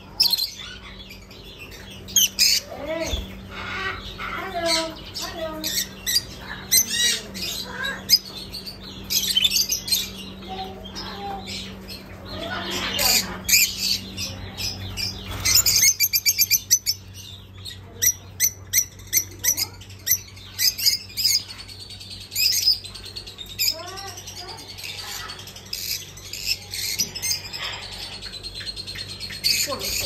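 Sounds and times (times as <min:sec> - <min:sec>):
lovebirds chirping: 0:00.0 - 0:30.0.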